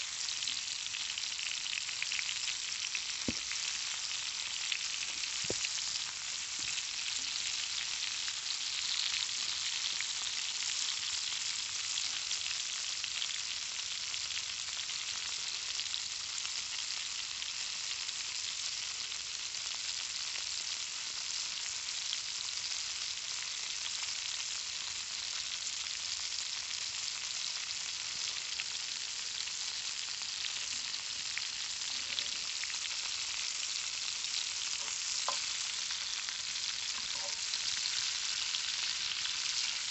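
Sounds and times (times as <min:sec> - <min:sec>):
sausages sizzling in a skillet: 0:00.0 - 0:39.9.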